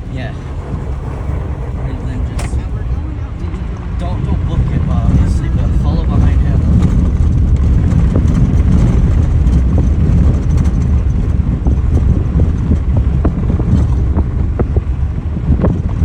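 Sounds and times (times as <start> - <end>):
road and engine rumble: 0.0 - 16.0
wind buffeting microphone: 0.0 - 16.0.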